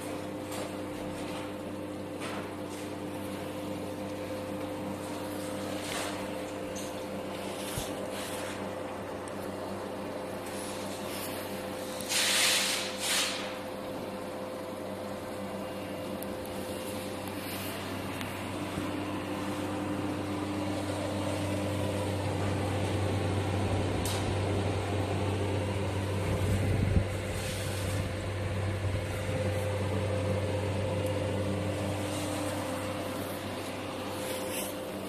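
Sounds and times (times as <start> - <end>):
cooling fans humming: 0.0 - 35.0.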